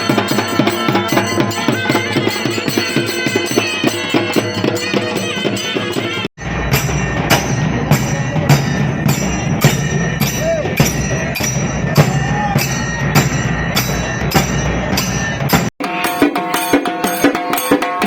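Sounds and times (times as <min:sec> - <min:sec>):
sharp drum strokes: 0:00.0 - 0:18.0.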